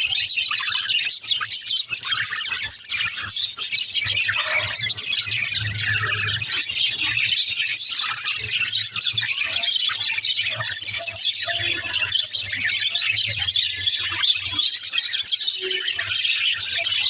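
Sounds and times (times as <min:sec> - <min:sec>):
budgerigars chattering: 0:00.0 - 0:17.0.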